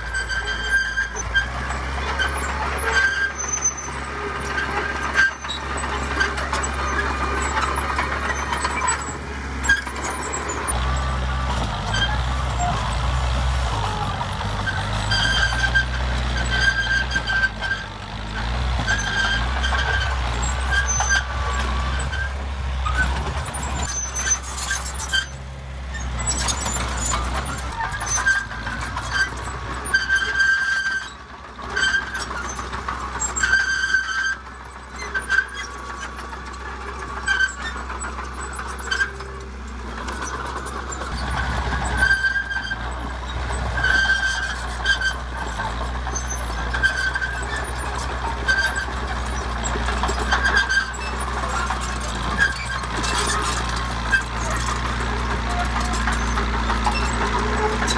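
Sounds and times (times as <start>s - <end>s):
heavy machine engine rumbling: 0.0s - 57.9s.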